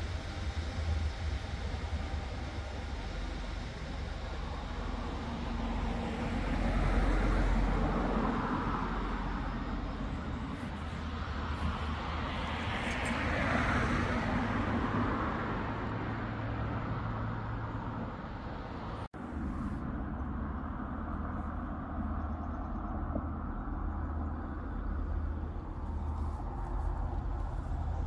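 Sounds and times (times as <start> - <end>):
train rushing rolling noise: 0.0 - 19.6, 24.3 - 28.0
train engine hum: 0.0 - 28.0.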